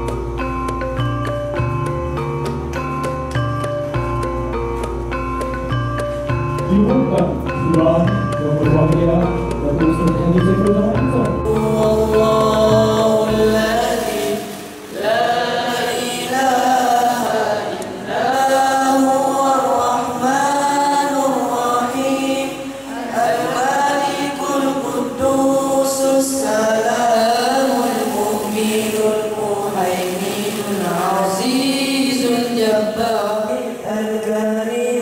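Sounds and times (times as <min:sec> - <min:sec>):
boys singing into microphones: 0:06.7 - 0:35.0.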